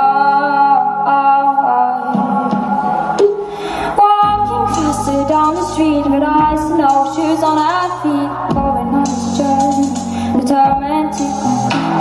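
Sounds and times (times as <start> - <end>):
instrumental backing: 0.0 - 12.0.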